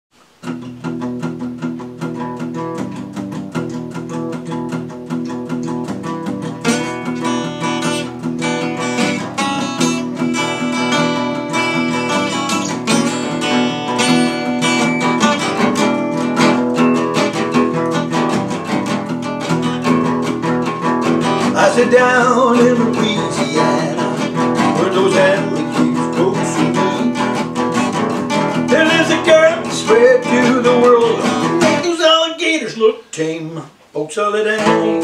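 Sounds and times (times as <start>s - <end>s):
acoustic guitars playing: 0.2s - 35.0s.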